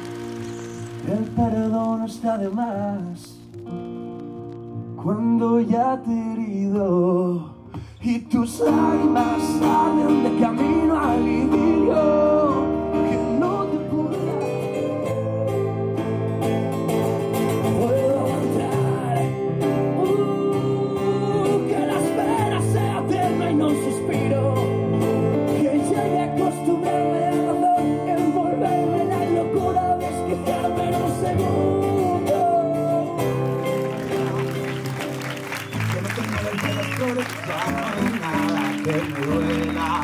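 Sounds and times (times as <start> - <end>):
acoustic guitar: 0.0 - 40.0.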